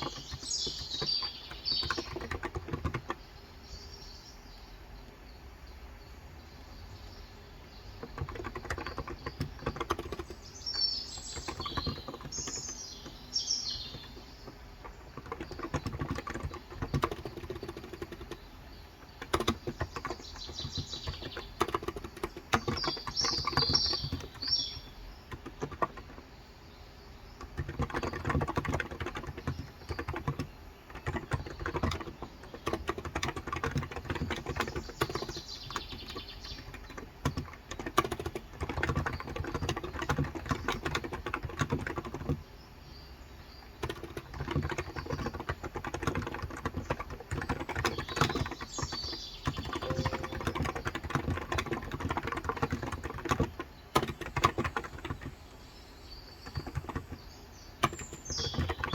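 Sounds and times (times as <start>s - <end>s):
typing on a keyboard: 0.0s - 3.2s, 7.9s - 26.3s, 27.4s - 42.5s, 43.6s - 55.5s, 56.3s - 58.9s
small birds chirping: 0.0s - 58.9s.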